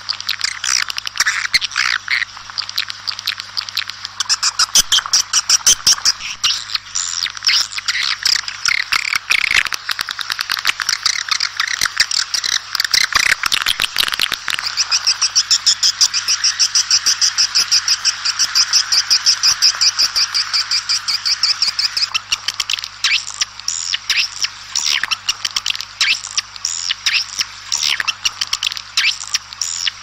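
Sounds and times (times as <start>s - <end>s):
swiftlets twittering and chirping: 0.3s - 30.0s.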